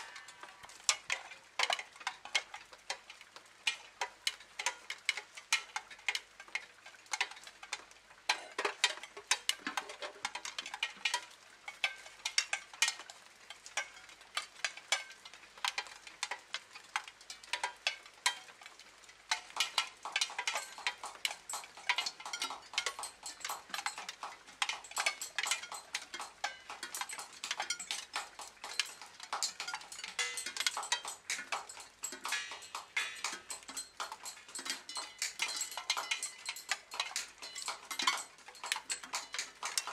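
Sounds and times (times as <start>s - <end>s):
irregular clicking and ticking: 0.0s - 39.9s.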